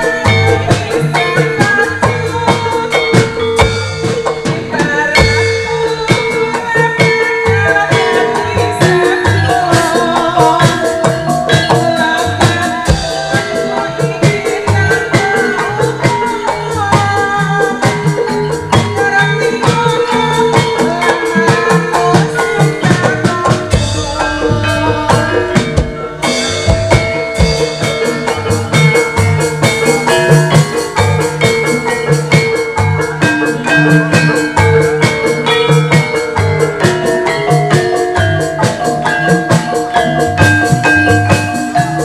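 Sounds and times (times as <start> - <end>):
hand drums beating: 0.0 - 42.0
struck keyed percussion melody: 0.0 - 42.0.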